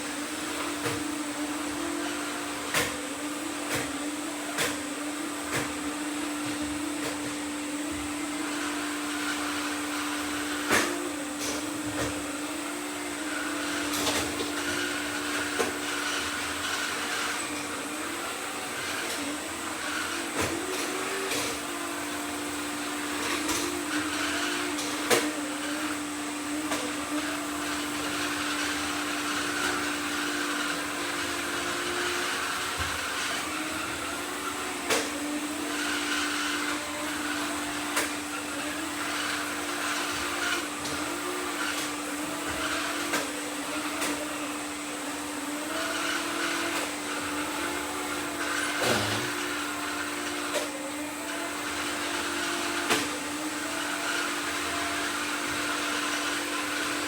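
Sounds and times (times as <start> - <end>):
robot vacuum cleaners whirring: 0.0 - 57.0.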